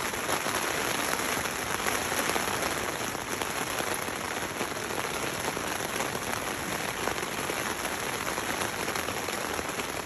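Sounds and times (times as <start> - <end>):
heavy rain on tent fabric: 0.0 - 10.0.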